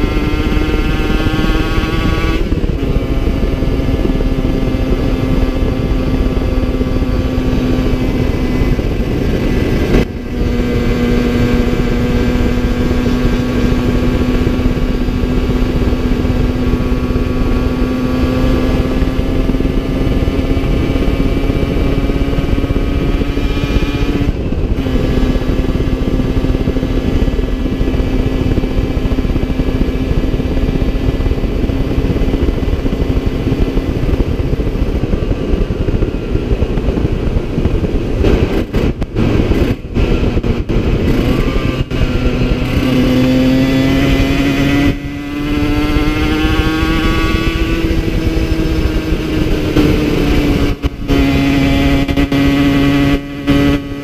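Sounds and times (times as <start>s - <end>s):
two-stroke motorcycle engine: 0.0s - 54.0s
wind rushing on microphone: 0.0s - 54.0s.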